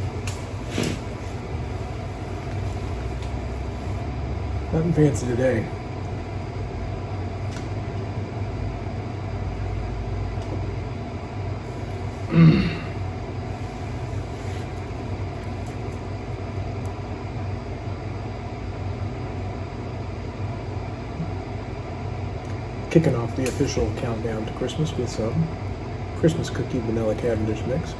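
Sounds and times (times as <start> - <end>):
low hum and rumble: 0.0 - 27.9.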